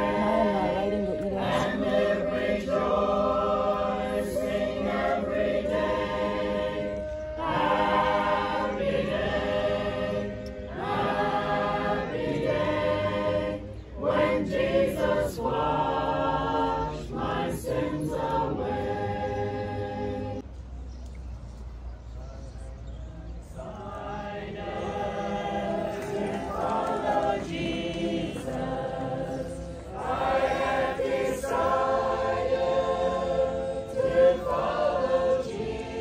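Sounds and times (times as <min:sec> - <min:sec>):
choir singing: 0:00.0 - 0:20.4, 0:23.4 - 0:36.0.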